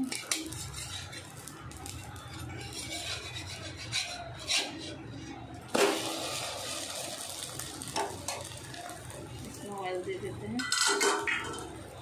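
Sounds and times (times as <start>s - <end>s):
batter sizzling in hot oil: 0.0s - 12.0s.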